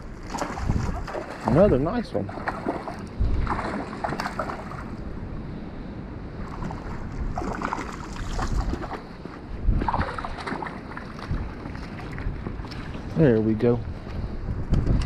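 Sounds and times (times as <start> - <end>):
creek water running: 0.0 - 5.0, 6.5 - 13.8
wind buffeting microphone: 0.0 - 15.0.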